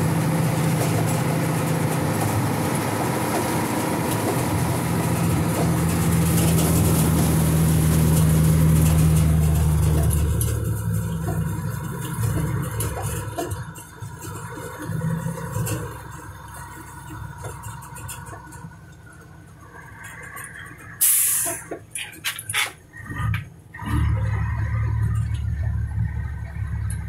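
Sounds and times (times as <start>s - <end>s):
tractor engine drone: 0.0s - 27.0s.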